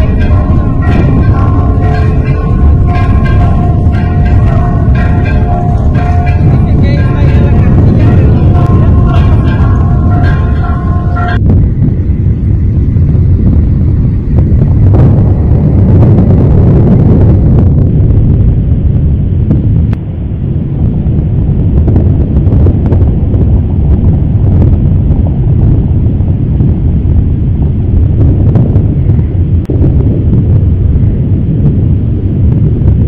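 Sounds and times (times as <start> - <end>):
loud low rumble: 0.0 - 33.0.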